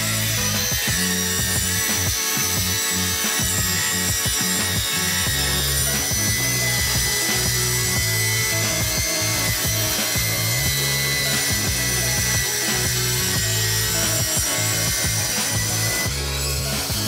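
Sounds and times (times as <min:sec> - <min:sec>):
music track: 0:00.0 - 0:17.0
saw cutting plywood: 0:00.0 - 0:17.0.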